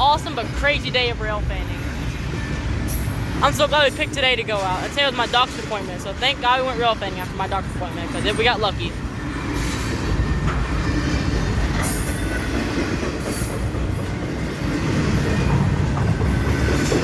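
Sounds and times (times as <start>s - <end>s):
train wheels rumbling on rail: 0.0s - 17.0s
wheels squealing: 0.0s - 17.0s.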